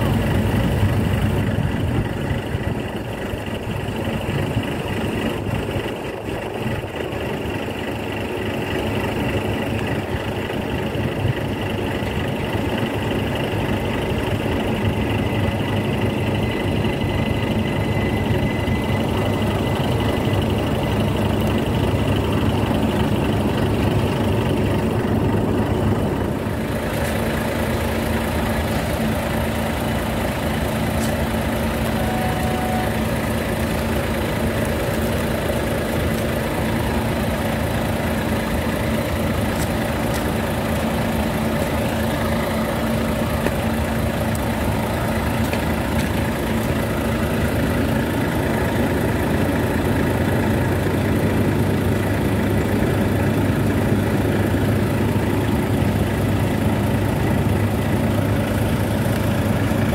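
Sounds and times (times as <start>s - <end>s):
diesel railway engine idling: 0.0s - 59.9s.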